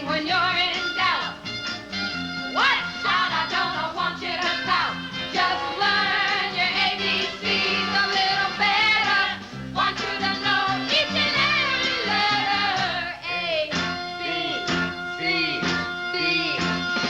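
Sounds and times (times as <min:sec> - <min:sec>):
voices singing: 0:00.0 - 0:01.6, 0:02.4 - 0:17.0.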